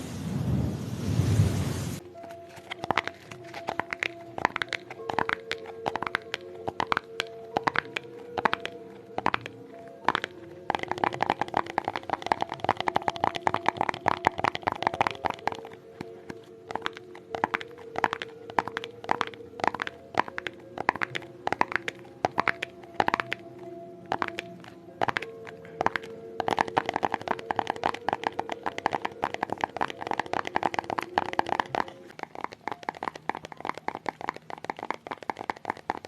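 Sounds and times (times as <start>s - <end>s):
soft background music: 1.2s - 36.0s
quick sharp tapping: 2.6s - 23.4s, 24.1s - 36.0s.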